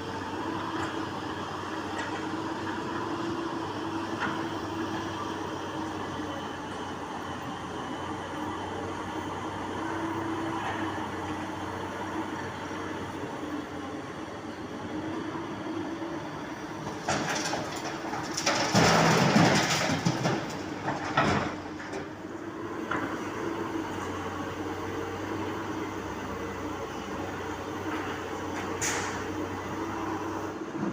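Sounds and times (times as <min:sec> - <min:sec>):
excavator engine humming: 0:00.0 - 0:30.9.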